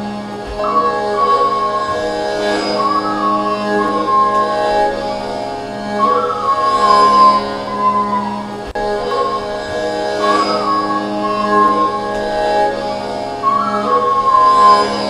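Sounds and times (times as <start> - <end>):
slow wavering melody: 0.0 - 15.0
steady low drone: 0.0 - 15.0.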